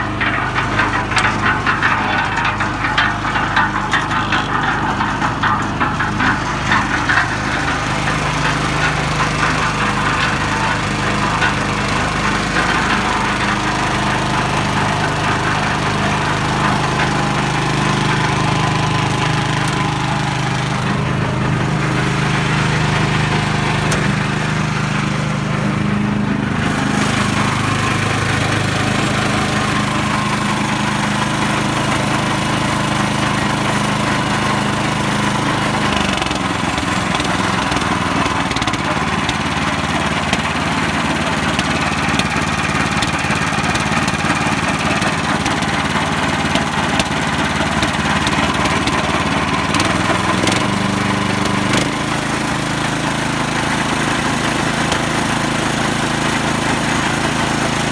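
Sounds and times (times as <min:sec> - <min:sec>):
rattling: 0:00.0 - 0:50.8
concrete mixer engine running: 0:00.0 - 0:57.9.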